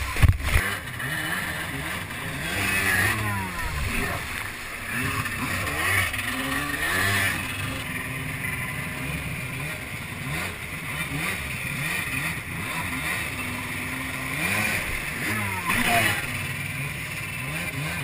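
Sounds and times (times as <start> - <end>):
rushing water and spray: 0.0 - 17.3
jet ski engine revving: 0.0 - 18.0.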